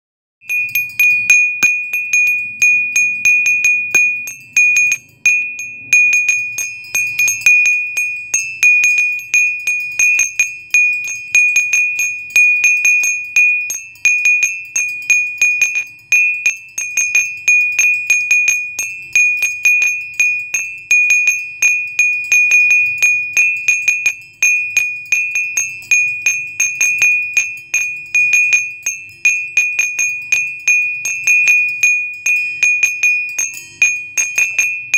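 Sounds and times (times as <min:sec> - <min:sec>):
high bell-like chime tinkling: 0:00.4 - 0:34.9.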